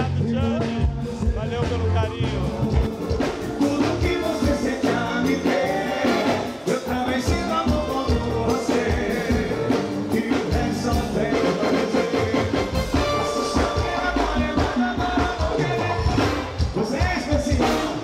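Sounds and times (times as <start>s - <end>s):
person singing: 0.0s - 18.0s
upbeat band music: 0.0s - 18.0s.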